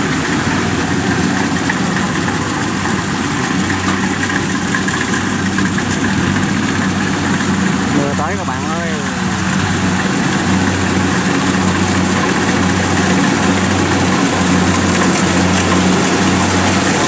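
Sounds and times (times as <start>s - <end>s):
combine harvester mechanical noise: 0.0s - 17.0s
diesel engine drone: 0.0s - 17.0s.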